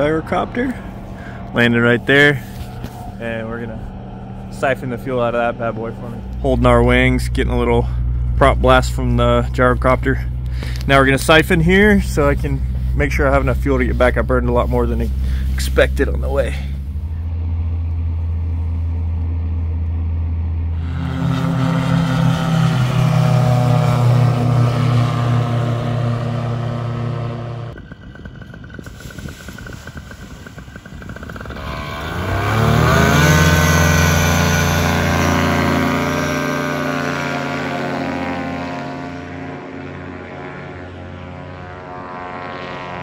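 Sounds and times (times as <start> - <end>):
paramotor engine: 0.0 - 43.0.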